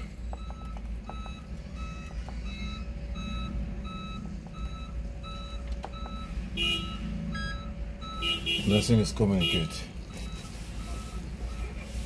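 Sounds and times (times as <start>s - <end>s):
electronic warning beeps: 0.0s - 12.0s.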